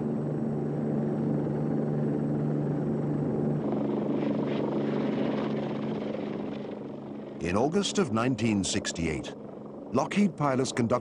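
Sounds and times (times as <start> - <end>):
helicopter droning: 0.0 - 11.0.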